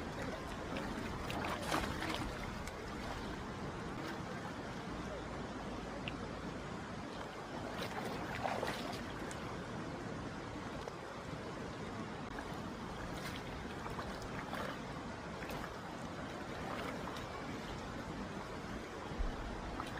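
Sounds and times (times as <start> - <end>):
stream water running: 0.0 - 19.9
water splashes: 0.0 - 19.9.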